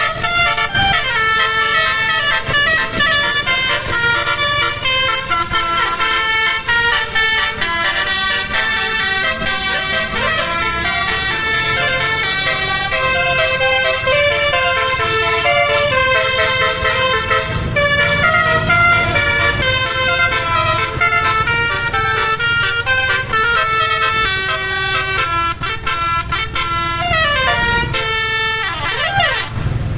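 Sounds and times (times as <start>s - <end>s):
musical air horn playing a tune: 0.0s - 29.6s.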